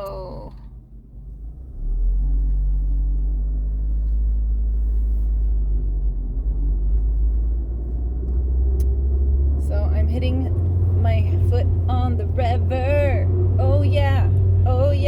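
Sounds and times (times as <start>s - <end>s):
car engine revving: 1.3s - 15.0s.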